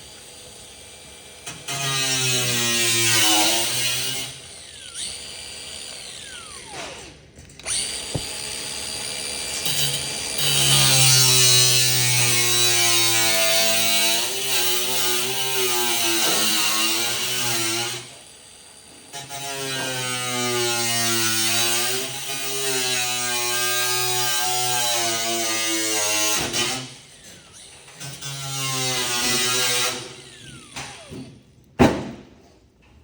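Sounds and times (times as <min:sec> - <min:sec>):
angle grinder cutting metal: 0:01.4 - 0:07.0, 0:07.6 - 0:18.2, 0:19.1 - 0:31.1.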